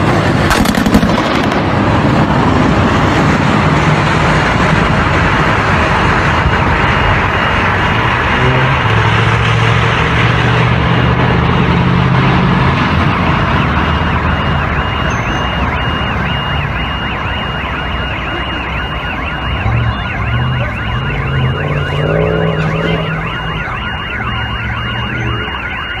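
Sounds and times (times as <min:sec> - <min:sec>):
electronic siren wailing: 0:04.2 - 0:26.0.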